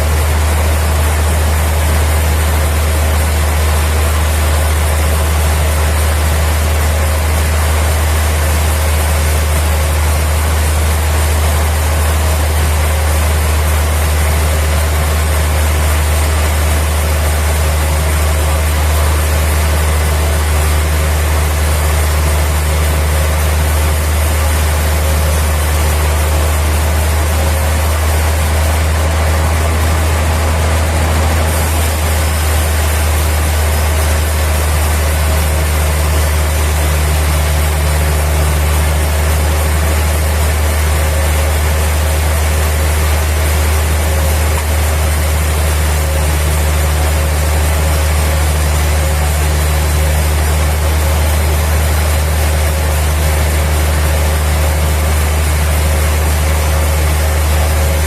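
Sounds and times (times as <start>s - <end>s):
sawmill machinery drone: 0.0s - 58.0s.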